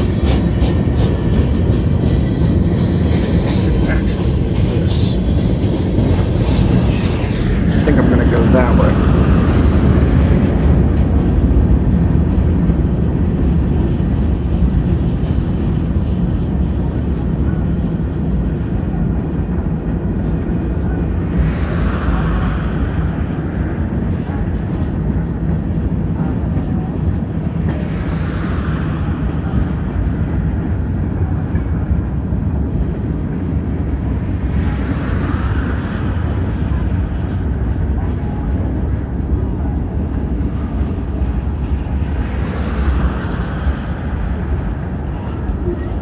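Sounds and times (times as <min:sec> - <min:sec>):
freight train rumbling past: 0:00.0 - 0:46.0.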